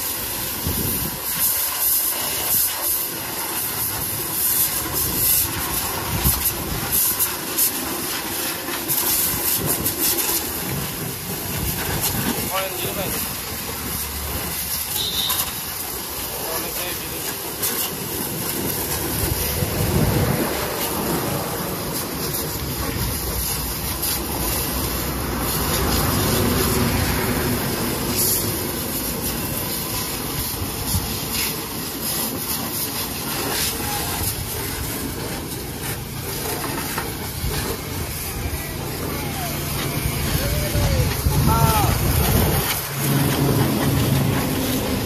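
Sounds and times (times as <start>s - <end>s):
pressure washer spraying metal: 0.0s - 45.0s.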